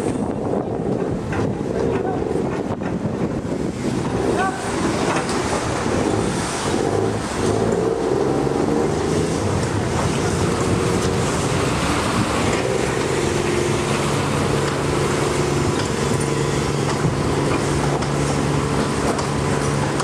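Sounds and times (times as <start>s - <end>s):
boat engine humming: 0.0s - 20.0s
propeller churning water: 0.0s - 20.0s.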